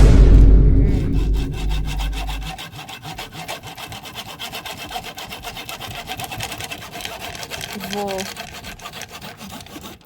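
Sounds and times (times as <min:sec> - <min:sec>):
small saw rasping: 0:00.8 - 0:10.0.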